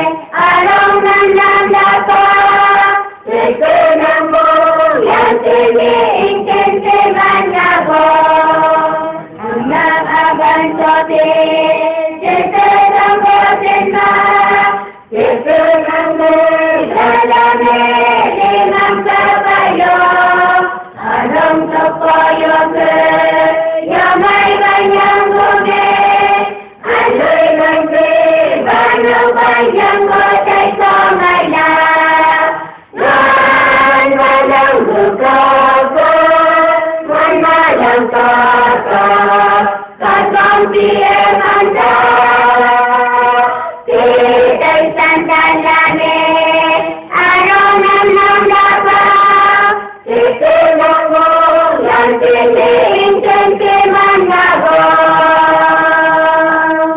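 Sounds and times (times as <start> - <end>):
group of young people singing: 0.0 - 56.9.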